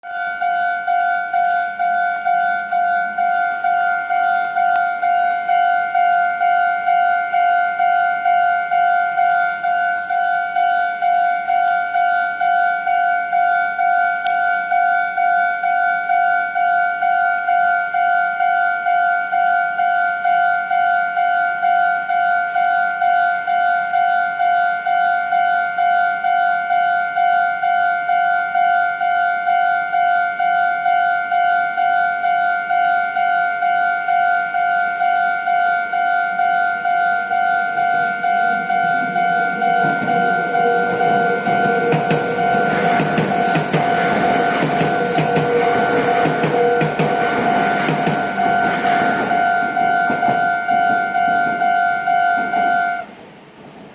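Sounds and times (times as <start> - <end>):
level crossing warning bell ringing: 0.0 - 53.1.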